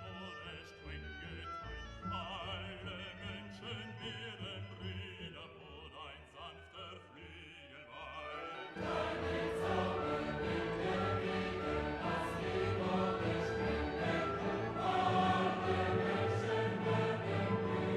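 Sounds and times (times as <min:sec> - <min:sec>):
background music accompaniment: 0:00.0 - 0:17.9.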